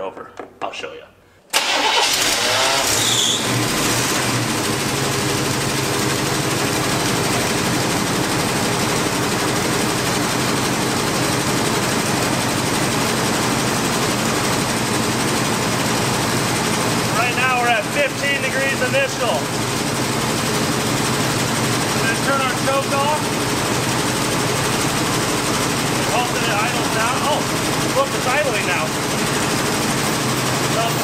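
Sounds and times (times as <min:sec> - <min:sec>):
truck engine fast idle: 0:01.6 - 0:31.0.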